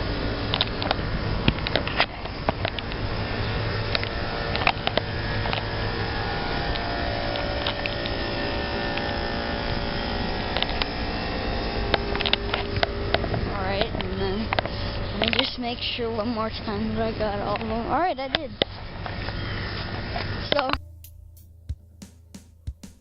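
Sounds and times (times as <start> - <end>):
air conditioning unit humming: 0.0 - 22.7.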